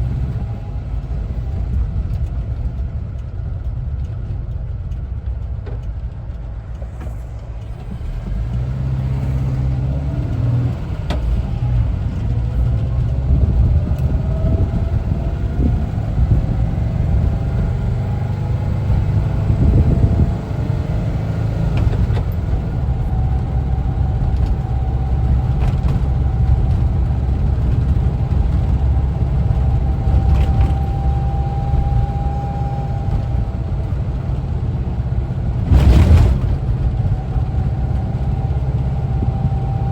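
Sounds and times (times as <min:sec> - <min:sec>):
road noise: 0:00.0 - 0:39.9
van engine rumble: 0:00.0 - 0:39.9.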